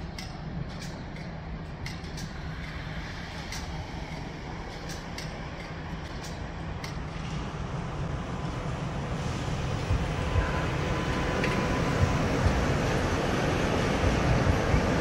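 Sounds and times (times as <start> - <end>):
tram low rumble: 0.0 - 15.0.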